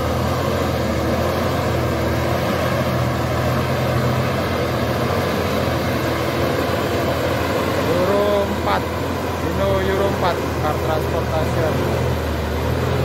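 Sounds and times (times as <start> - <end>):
truck diesel engine driving past: 0.0 - 13.0.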